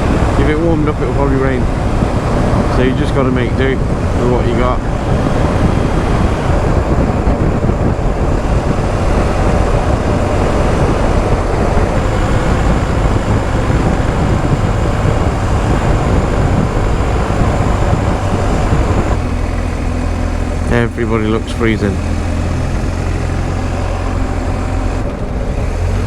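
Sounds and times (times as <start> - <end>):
motorcycle engine: 0.0 - 26.0
road noise: 0.0 - 26.0
wind on microphone: 0.0 - 26.0.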